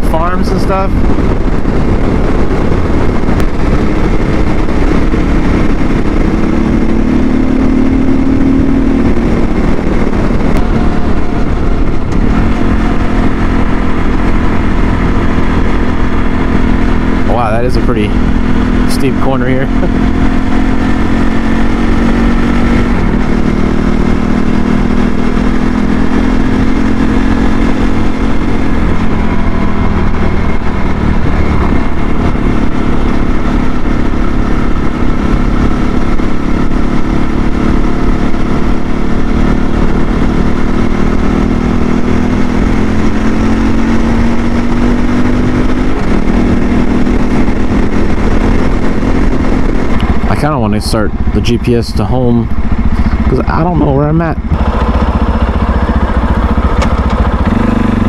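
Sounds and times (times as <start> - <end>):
motorcycle engine running: 0.0 - 58.0
wind and road rush: 0.0 - 58.0.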